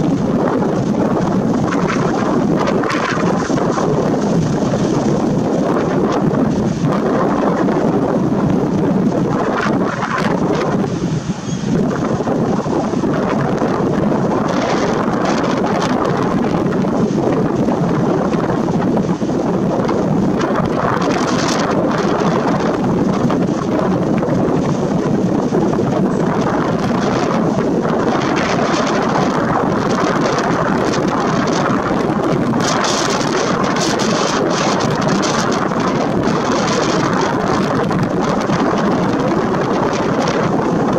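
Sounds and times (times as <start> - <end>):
strong wind on microphone: 0.0 - 40.9.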